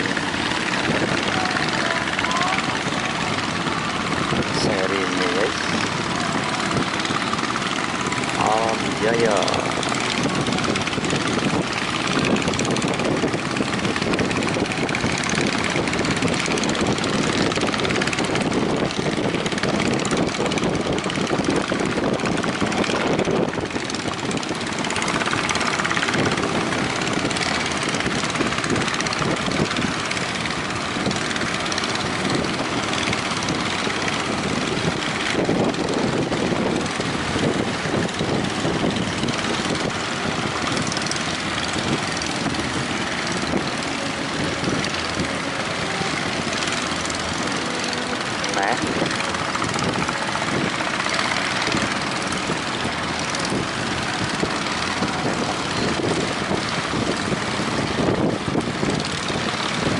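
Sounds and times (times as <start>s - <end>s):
sea waves breaking: 0.0s - 59.9s
wind buffeting microphone: 0.0s - 59.9s.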